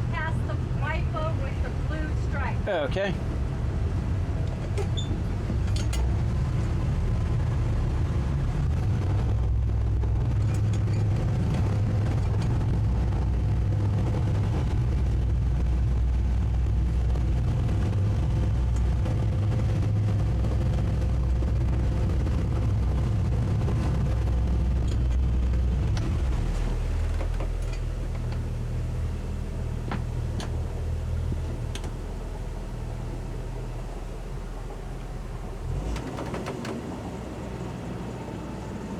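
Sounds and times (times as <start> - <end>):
outboard engines droning: 0.0 - 38.9.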